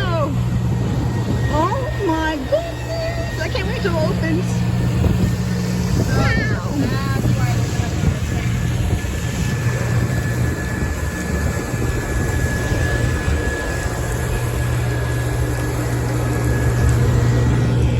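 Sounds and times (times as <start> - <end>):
thin high whine: 0.0 - 17.9
vehicle engine rumble: 0.0 - 17.9.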